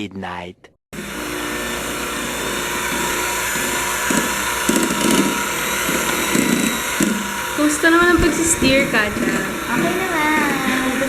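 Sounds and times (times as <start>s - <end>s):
small electric motor whirring: 1.0s - 11.0s.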